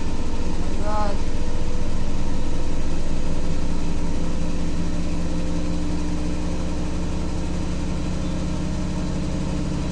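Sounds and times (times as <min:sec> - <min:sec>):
washing machine pulsing hum: 0:00.0 - 0:09.9.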